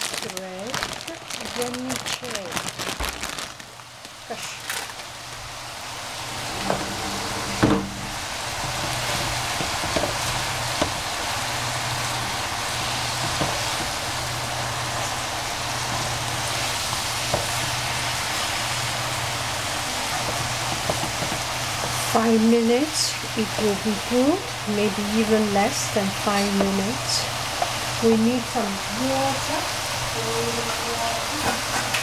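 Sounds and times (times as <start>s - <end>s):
vegetables sizzling in a pan: 0.0s - 32.0s.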